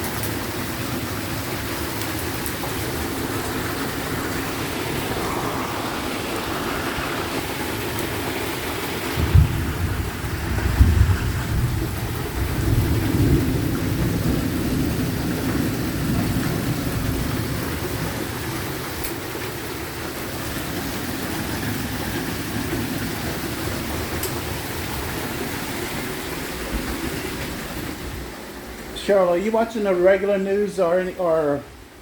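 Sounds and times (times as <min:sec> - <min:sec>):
torrential rain: 0:00.0 - 0:32.0.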